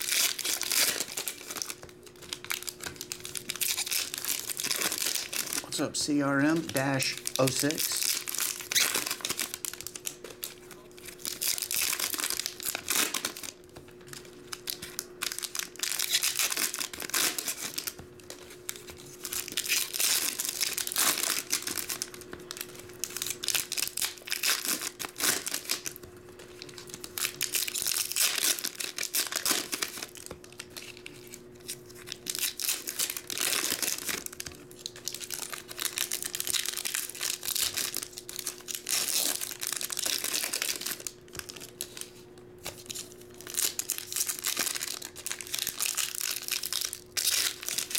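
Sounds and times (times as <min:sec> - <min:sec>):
faint steady hum: 0:00.0 - 0:47.9
foil wrappers crinkling and tearing: 0:00.0 - 0:47.9.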